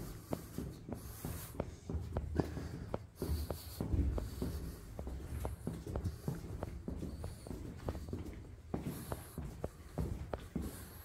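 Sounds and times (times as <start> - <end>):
footsteps on concrete: 0.0 - 11.0.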